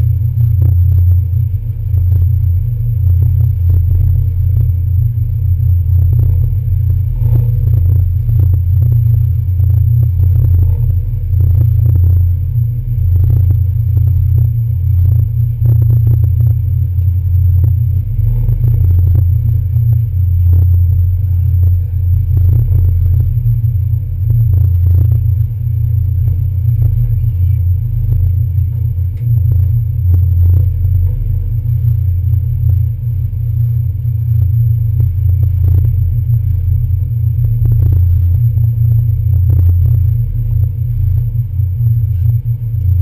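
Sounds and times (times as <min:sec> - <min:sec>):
ferry diesel engines rumbling: 0:00.0 - 0:43.0.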